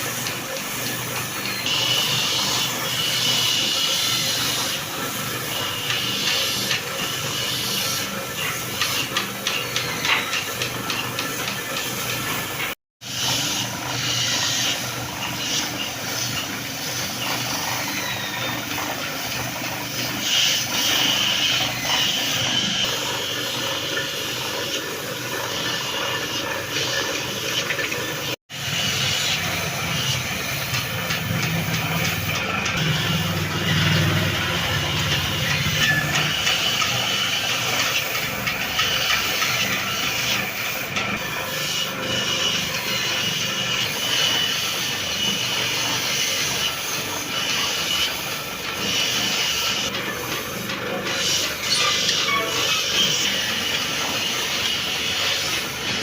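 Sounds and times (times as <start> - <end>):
woodworking machinery hissing: 0.0 - 56.0.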